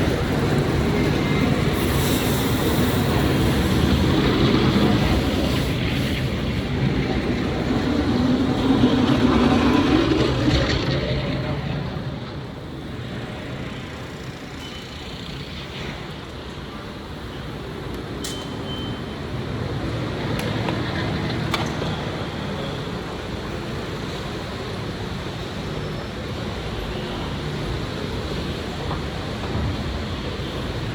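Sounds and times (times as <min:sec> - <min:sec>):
street traffic rumble: 0:00.0 - 0:30.9.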